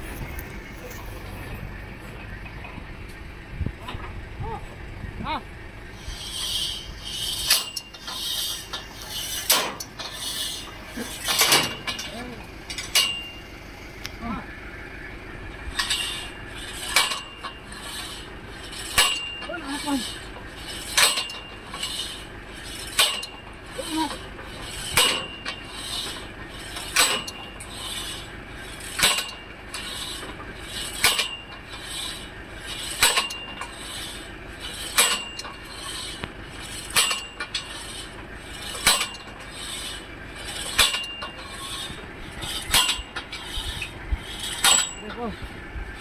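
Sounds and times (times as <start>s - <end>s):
rasping mechanical rhythm: 0.0s - 46.0s
drilling rig metallic clank: 5.9s - 14.2s, 14.8s - 46.0s.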